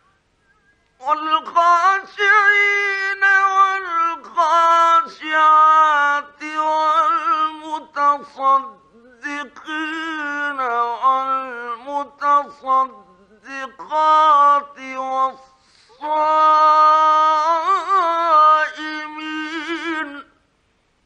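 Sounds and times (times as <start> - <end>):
man chanting melodically: 1.0 - 20.4.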